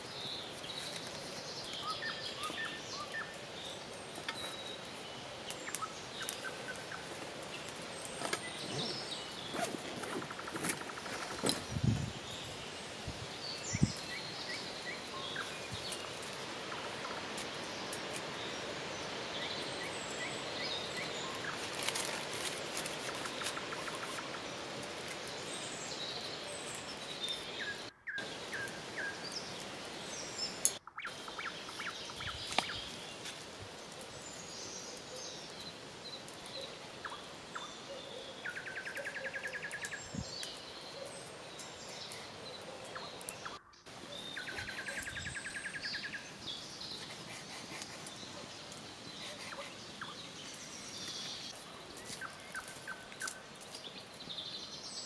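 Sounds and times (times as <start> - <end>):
birds chirping: 0.0 - 55.0
steady outdoor hiss: 0.0 - 55.0.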